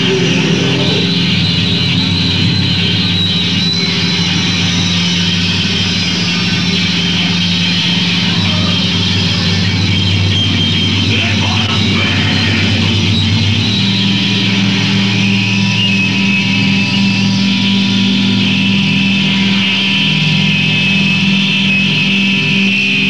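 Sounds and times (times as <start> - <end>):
droning distorted band noise: 0.0 - 23.0.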